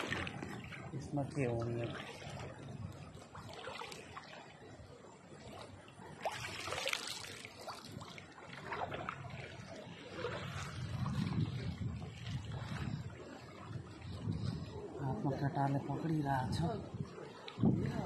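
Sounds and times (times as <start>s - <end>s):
river water splashing: 0.0s - 18.0s.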